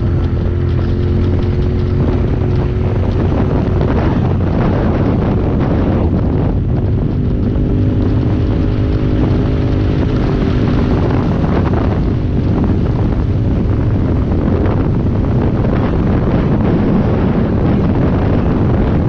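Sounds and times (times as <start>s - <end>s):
utility vehicle engine running: 0.0s - 19.0s
wind rumble on microphone: 0.0s - 19.0s.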